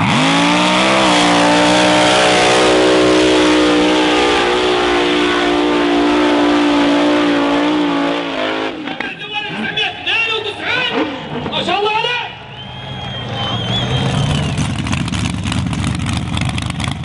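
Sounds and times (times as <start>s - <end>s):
car engine at full throttle: 0.0s - 11.8s, 12.6s - 17.0s.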